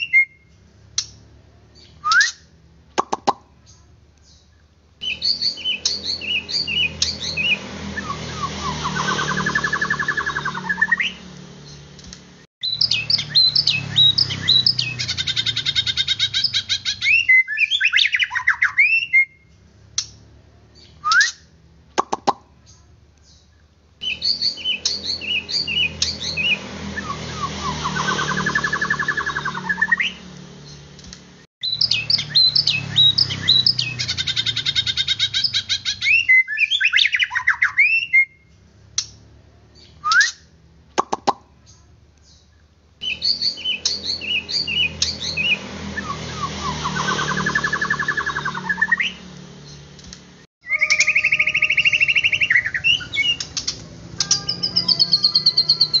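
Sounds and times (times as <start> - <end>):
bird song with whistles and trills: 0.0 - 1.2, 1.8 - 11.8, 12.6 - 30.8, 31.6 - 39.2, 39.8 - 49.8, 50.6 - 56.0.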